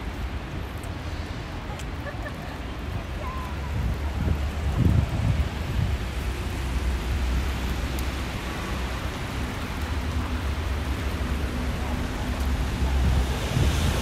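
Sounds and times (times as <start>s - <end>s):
car traffic on wet asphalt: 0.0s - 14.0s
hiss of wet precipitation: 0.0s - 14.0s.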